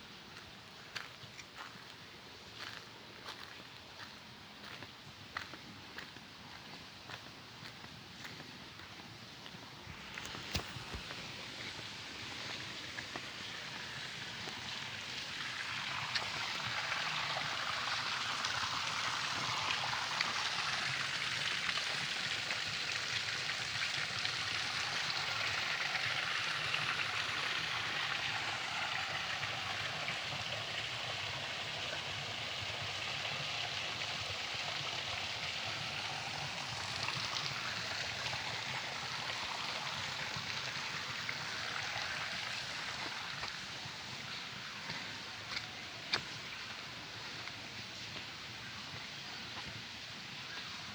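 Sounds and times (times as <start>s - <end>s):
running water rushing: 9.8s - 50.9s.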